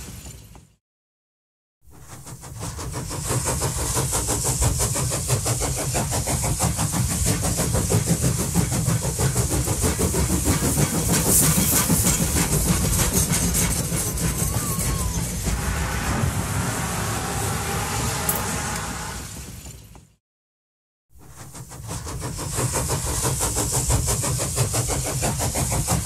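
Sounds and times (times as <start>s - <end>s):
train rumbling and clattering: 0.0s - 0.8s, 1.9s - 20.2s, 21.2s - 26.0s.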